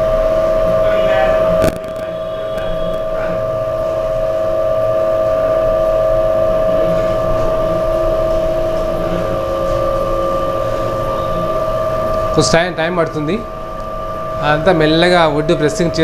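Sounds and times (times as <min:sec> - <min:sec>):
faint low pulsing: 0:00.0 - 0:16.0
oil press motor whine: 0:00.0 - 0:16.0.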